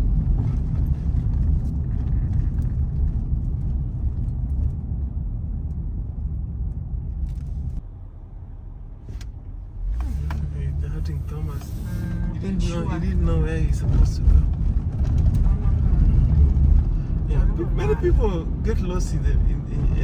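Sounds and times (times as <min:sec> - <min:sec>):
car cabin engine and road drone: 0:00.0 - 0:20.0.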